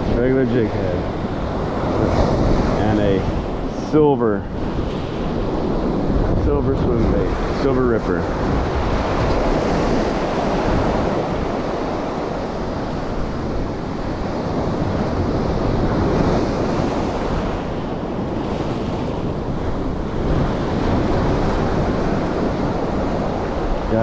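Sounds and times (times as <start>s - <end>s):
ocean surf breaking: 0.0s - 24.0s
wind noise on microphone: 0.0s - 24.0s.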